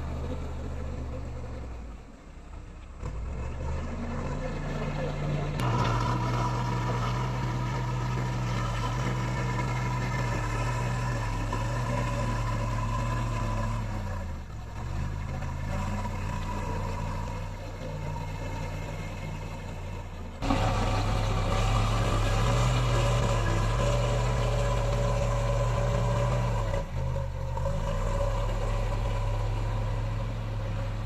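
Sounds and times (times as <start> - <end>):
diesel engine of heavy machinery: 0.0 - 31.0.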